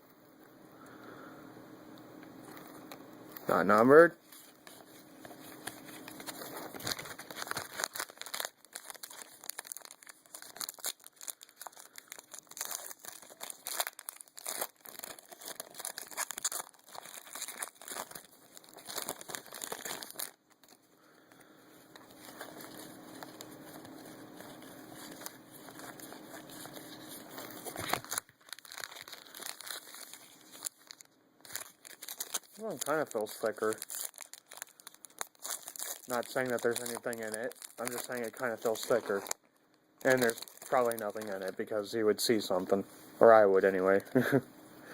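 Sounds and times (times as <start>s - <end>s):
cards rustling: 2.4s - 39.4s, 40.0s - 44.0s
wrapper crinkling and tearing: 2.4s - 44.3s.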